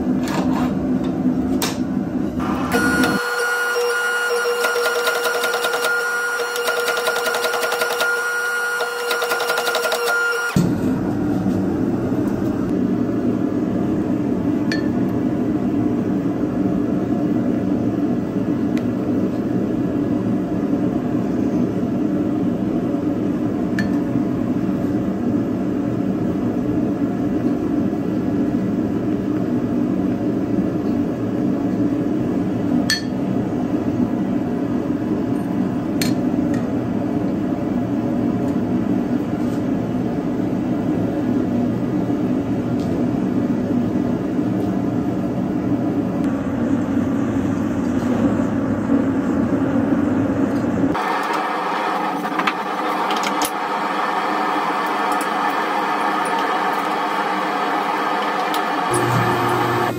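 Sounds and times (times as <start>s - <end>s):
workshop equipment roaring: 0.0s - 59.9s.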